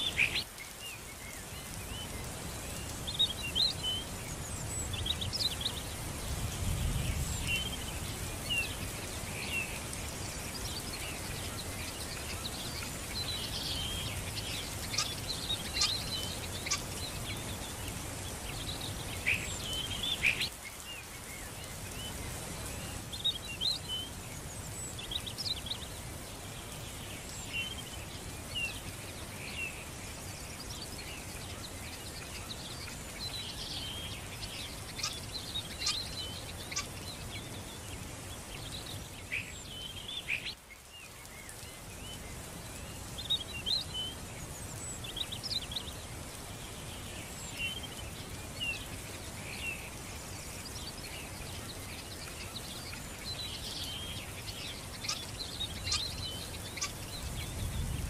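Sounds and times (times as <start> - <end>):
small birds chirping: 0.0 - 58.0
steady outdoor hiss: 0.0 - 58.0.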